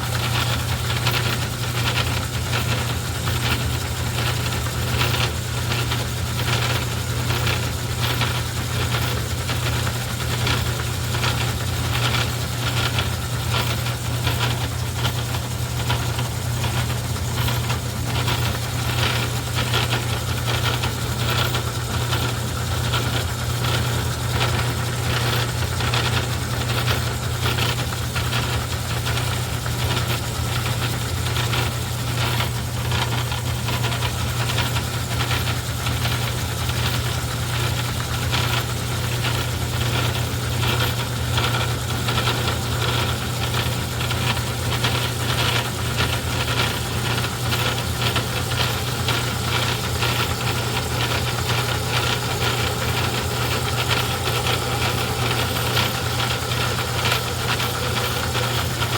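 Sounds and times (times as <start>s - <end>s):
metal lathe motor humming: 0.0s - 58.9s
regular clicking rattle: 0.2s - 58.9s.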